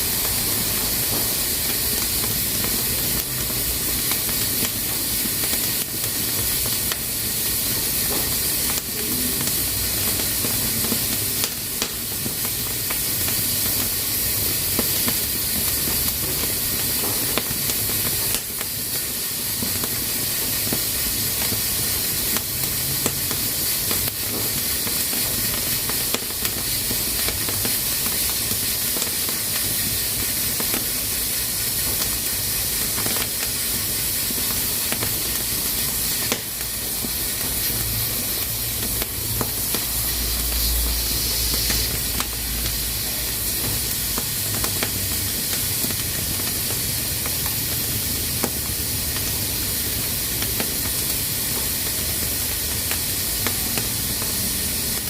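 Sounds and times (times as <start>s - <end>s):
pressure cooker steam hiss: 0.0s - 55.0s.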